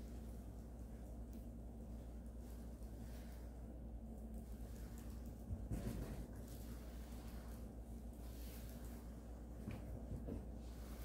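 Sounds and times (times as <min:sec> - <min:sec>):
brush swishing on canvas: 0:00.0 - 0:11.0
steady low hum: 0:00.0 - 0:11.0.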